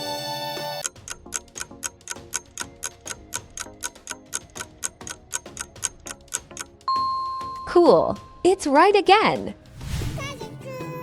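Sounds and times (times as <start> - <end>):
countdown timer ticking: 0.0 - 9.6.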